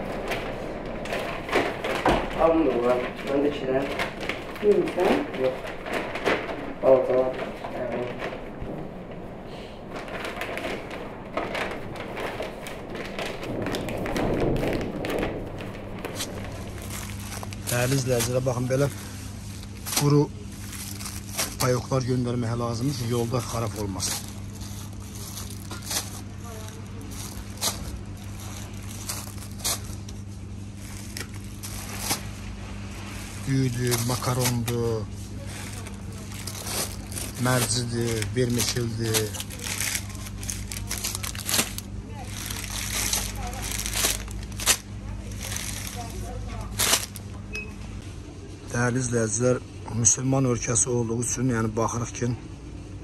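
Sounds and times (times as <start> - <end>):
plastic bag crinkling: 0.0 - 47.5
steady low hum: 0.0 - 53.0.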